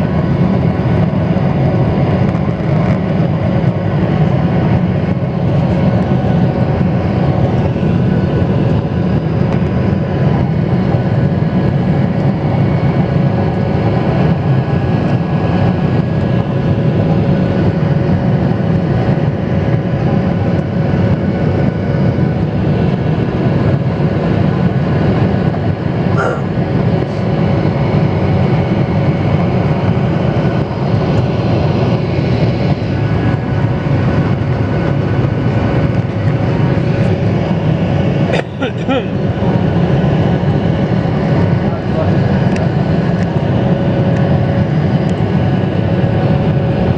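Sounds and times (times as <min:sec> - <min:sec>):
jet engine cabin rumble: 0:00.0 - 0:46.9.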